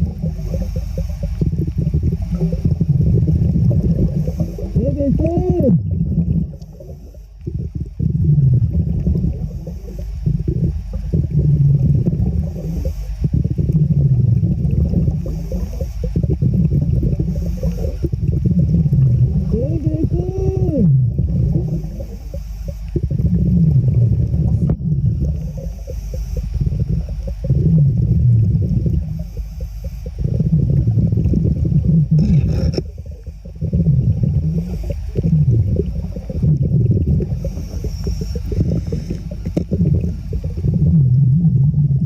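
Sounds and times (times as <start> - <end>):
muffled underwater rumbling: 0.0 - 42.0.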